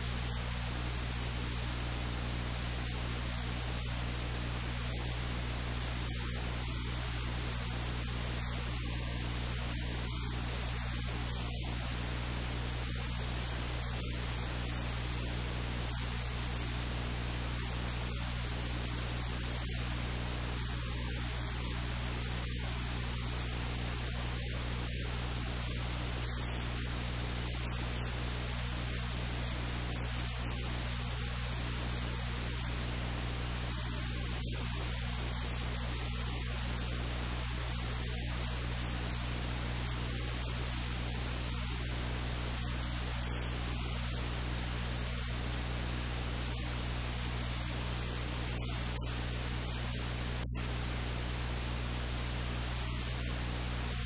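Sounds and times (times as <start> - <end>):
low steady hum: 0.0 - 54.0
static hiss: 0.0 - 54.0.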